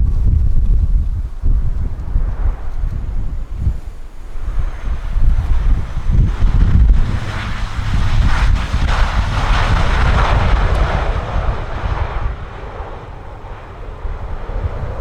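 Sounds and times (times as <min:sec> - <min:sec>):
jet airliner passing by: 0:00.0 - 0:15.0
wind buffeting microphone: 0:00.0 - 0:15.0.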